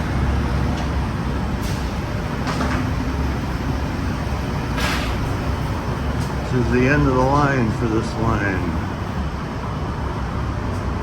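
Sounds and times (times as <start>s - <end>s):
streetcar rumble: 0.0s - 11.0s.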